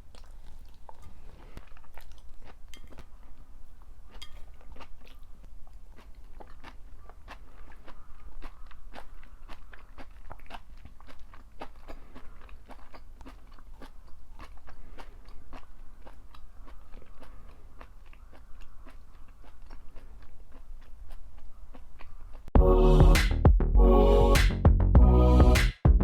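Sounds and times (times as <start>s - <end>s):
chewing and crunching food: 0.0s - 22.5s.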